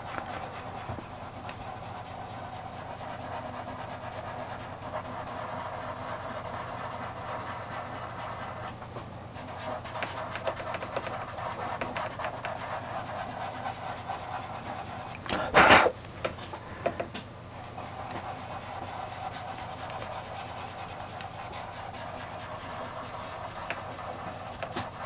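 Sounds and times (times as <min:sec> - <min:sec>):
fingers rubbing pastel on paper: 0:00.0 - 0:08.8, 0:09.4 - 0:15.1, 0:17.6 - 0:25.0.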